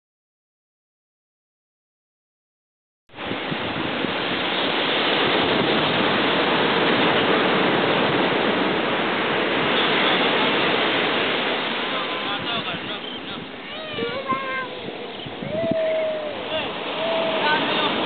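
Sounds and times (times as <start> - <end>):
waves breaking on a beach: 3.1 - 18.0.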